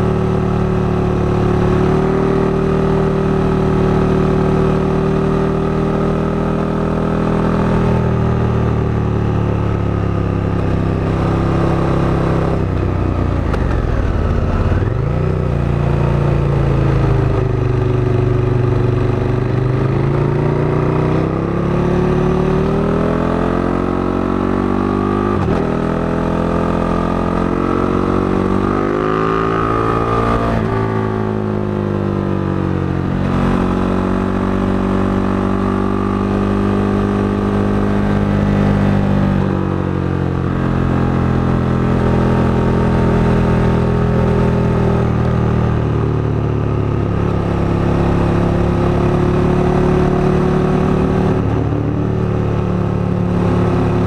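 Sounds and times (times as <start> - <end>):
motorcycle engine running: 0.0 - 25.7, 26.8 - 54.0.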